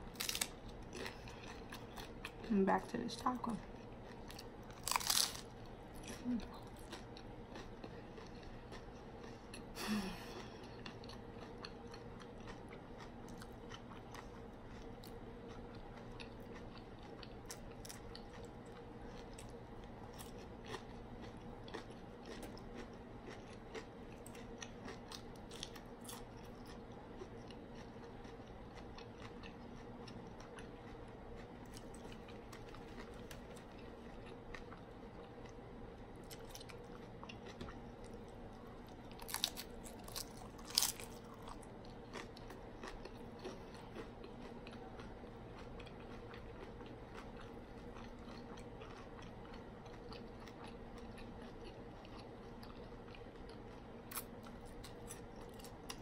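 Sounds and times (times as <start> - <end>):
crunchy taco chewing: 0.0 - 2.5, 3.6 - 35.6, 36.2 - 56.0.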